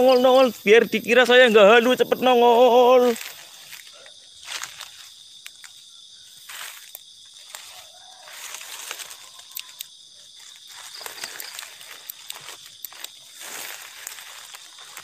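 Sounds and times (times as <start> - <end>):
crickets chirring: 0.0 - 15.0
footsteps through dry leaves: 2.6 - 15.0.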